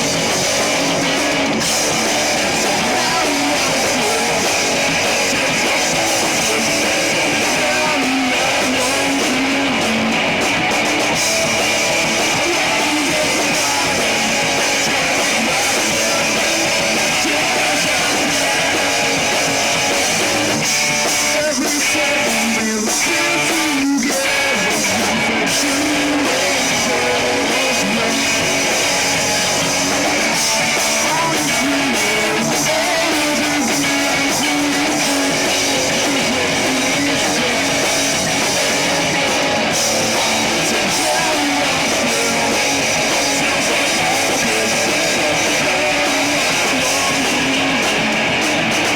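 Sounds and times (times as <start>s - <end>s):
electric guitar: 0.0s - 48.9s
rock band playing live: 0.0s - 48.9s.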